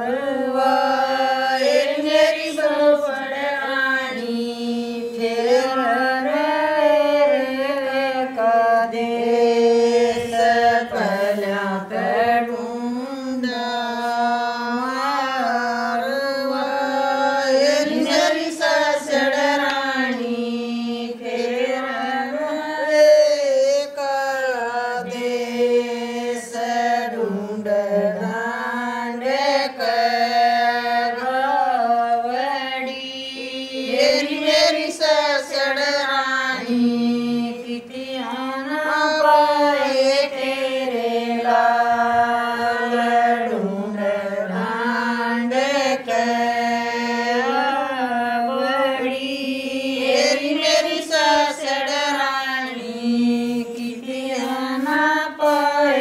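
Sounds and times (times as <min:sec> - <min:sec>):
women singing in unison: 0:00.0 - 0:56.0.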